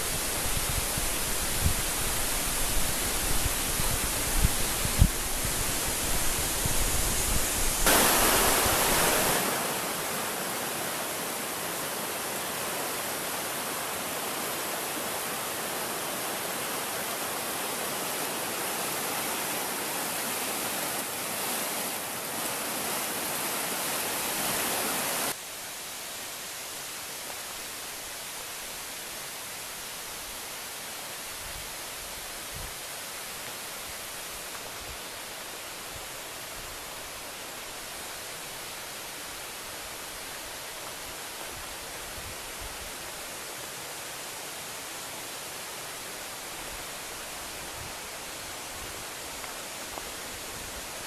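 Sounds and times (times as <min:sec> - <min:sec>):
stream rushing over rocks: 0:00.0 - 0:51.0.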